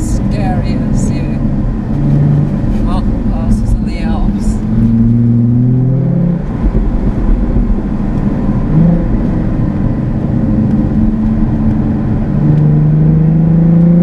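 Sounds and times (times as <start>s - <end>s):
road and wind rumble: 0.0s - 14.0s
sports car engine accelerating: 0.0s - 14.0s.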